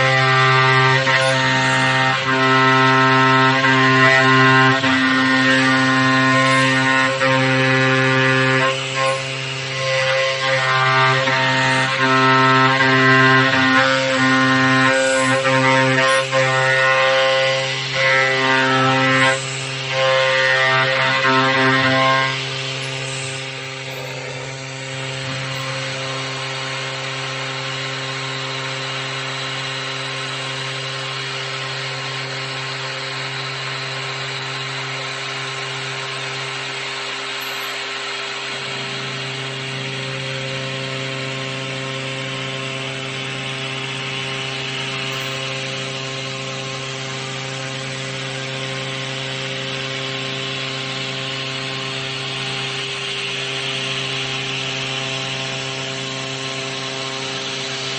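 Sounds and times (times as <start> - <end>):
cnc machine spindle cutting: 0.0 - 57.9.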